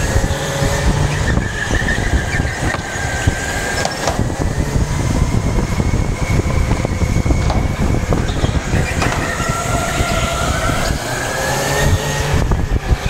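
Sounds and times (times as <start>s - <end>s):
go-kart engine rumbling and whining: 0.0s - 13.0s.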